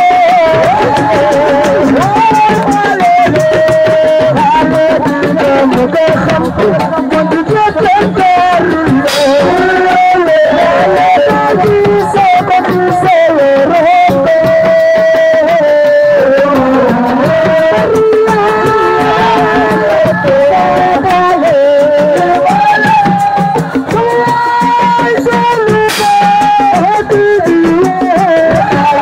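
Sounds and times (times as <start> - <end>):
hand drum strokes: 0.0 - 29.0
person singing: 0.0 - 29.0.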